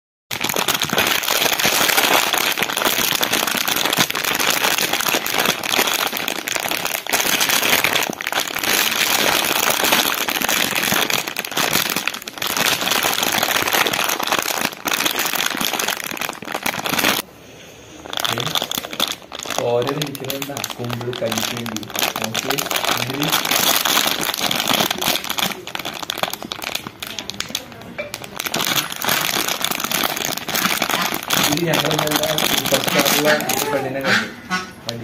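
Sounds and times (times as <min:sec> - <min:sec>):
plastic bag crinkling: 0:00.3 - 0:17.3, 0:17.9 - 0:35.0.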